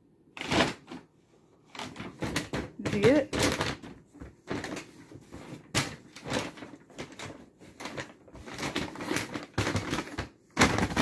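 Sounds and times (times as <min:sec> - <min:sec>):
paper bag rustling: 0:01.7 - 0:11.0.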